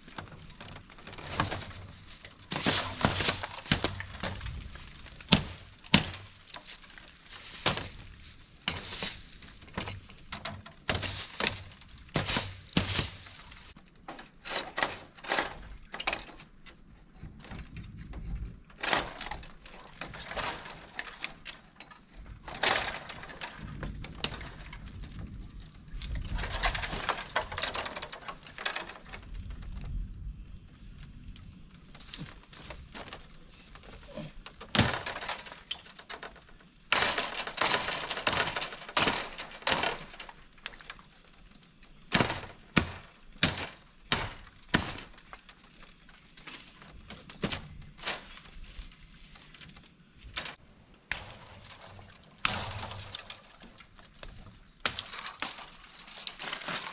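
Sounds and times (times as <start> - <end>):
sharp cracks and knocks: 0.0 - 30.0, 31.3 - 48.7, 49.3 - 56.9.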